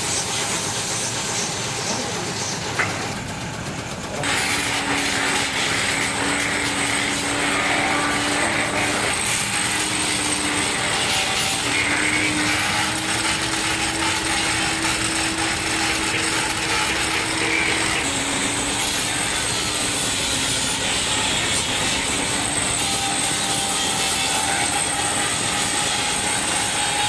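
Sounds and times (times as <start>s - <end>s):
factory machinery clatter: 0.0s - 27.0s
machine whine: 0.0s - 27.0s.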